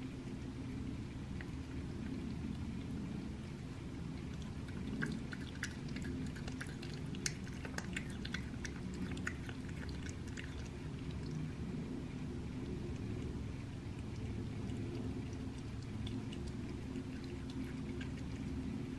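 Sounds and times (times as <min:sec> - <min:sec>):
cat chewing and licking meat: 0:00.0 - 0:18.9
low background hum: 0:00.0 - 0:18.9.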